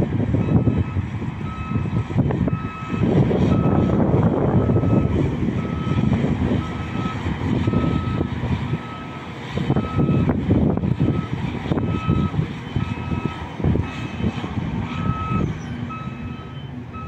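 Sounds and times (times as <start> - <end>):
diesel truck rumble: 0.0 - 17.0.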